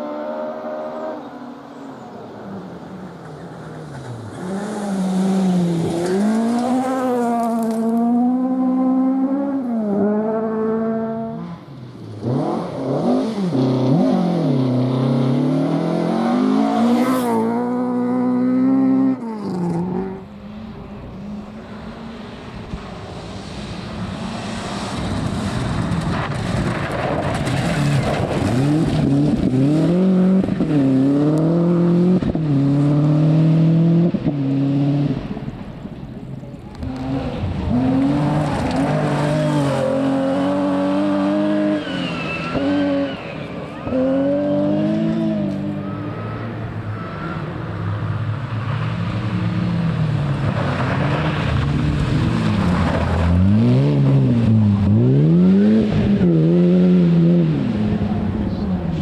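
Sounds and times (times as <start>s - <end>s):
rumbling road noise: 1.2s - 59.0s
rally car engine revving: 3.3s - 59.0s.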